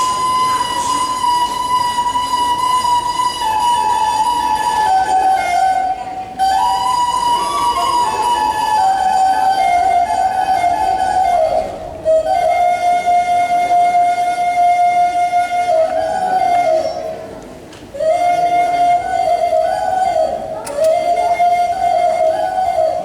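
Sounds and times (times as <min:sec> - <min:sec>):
solo flute melody: 0:00.0 - 0:23.0.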